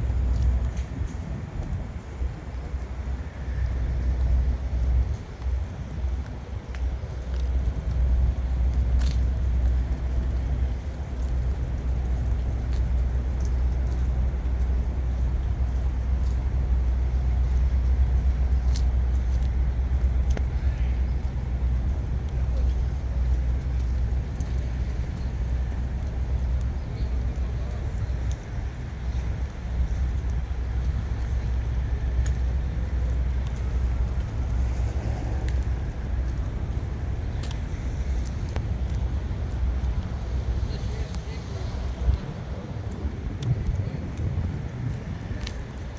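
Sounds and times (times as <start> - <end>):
large vehicle engine rumbling: 0.0 - 45.9.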